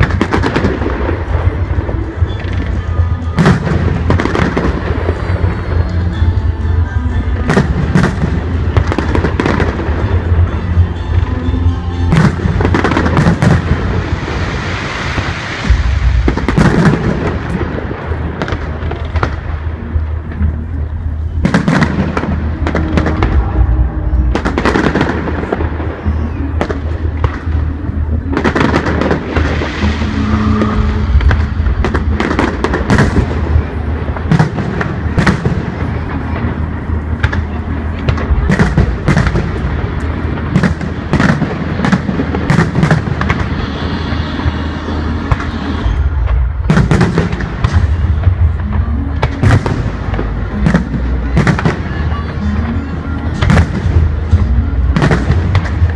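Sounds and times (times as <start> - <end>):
fireworks bursting with bangs: 0.0 - 55.9.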